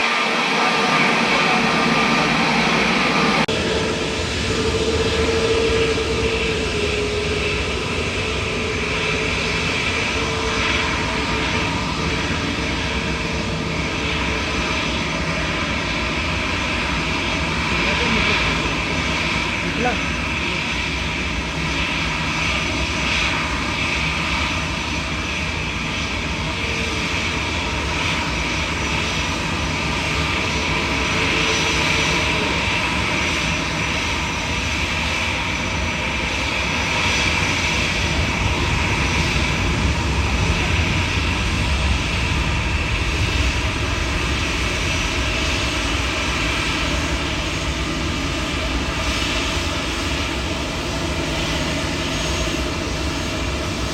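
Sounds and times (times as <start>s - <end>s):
jet engines whining: 0.0s - 53.9s.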